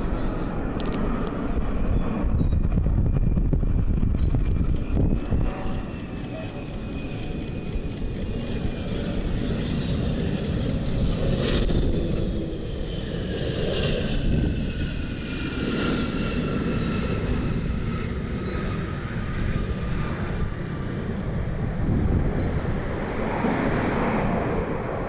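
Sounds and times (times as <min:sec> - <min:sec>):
jet engines whining: 0:00.0 - 0:25.0
low rumble of wind: 0:00.0 - 0:25.0.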